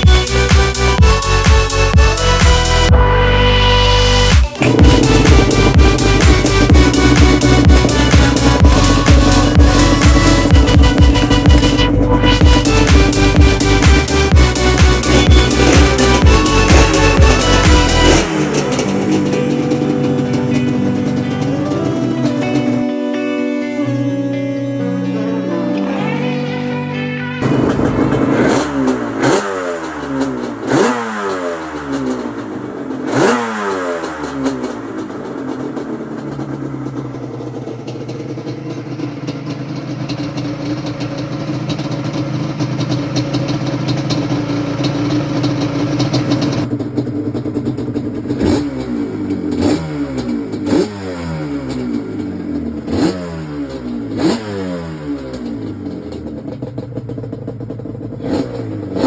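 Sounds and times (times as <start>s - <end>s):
two-stroke engine revving: 0.0s - 22.9s, 27.4s - 59.0s.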